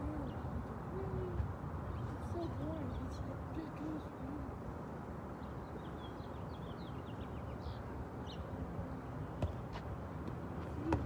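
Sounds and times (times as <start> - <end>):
small birds chirping: 0.0 - 4.6, 5.2 - 9.7.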